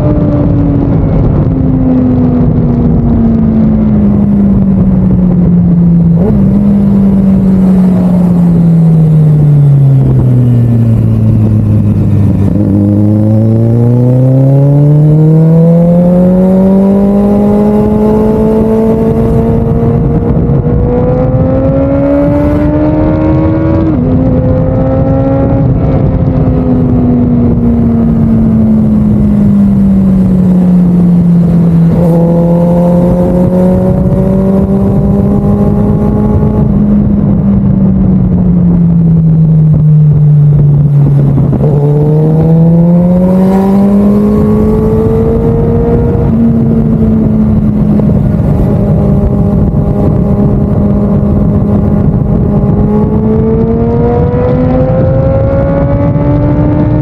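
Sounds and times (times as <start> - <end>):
road noise: 0.0 - 57.0
vehicle motor whine: 0.0 - 57.0
wind noise: 0.0 - 57.0.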